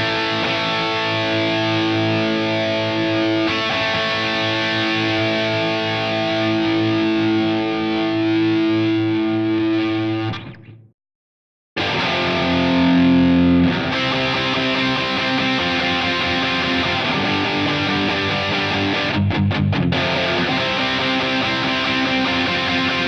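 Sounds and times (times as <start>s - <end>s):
distorted electric guitar: 0.0s - 10.9s, 11.8s - 23.0s.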